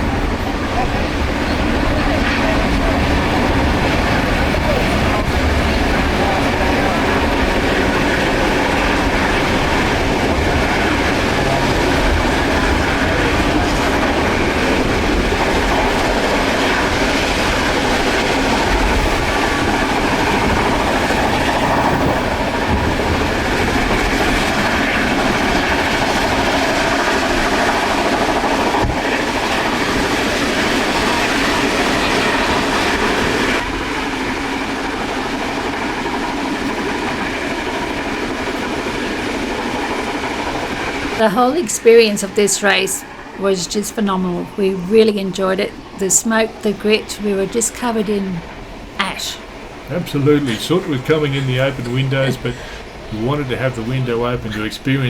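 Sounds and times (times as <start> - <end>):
train carriage rumbling: 0.0 - 55.0.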